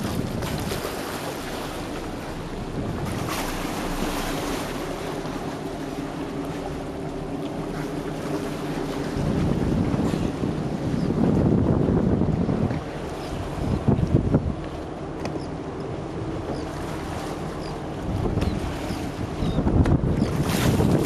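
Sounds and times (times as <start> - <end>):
boat engine hum: 0.0 - 21.0
water rushing along hull: 0.0 - 21.0
wind buffeting microphone: 0.0 - 21.0.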